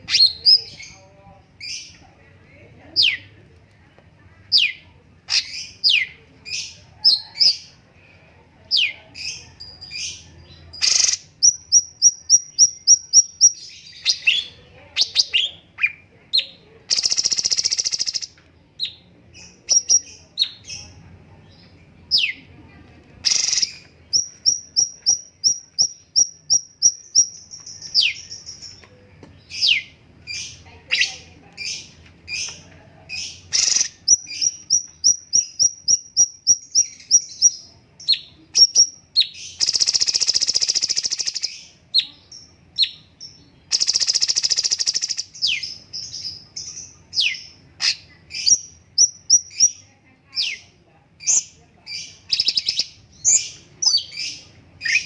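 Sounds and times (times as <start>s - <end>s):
songbird singing: 0.0s - 3.4s, 4.4s - 7.9s, 8.6s - 55.0s.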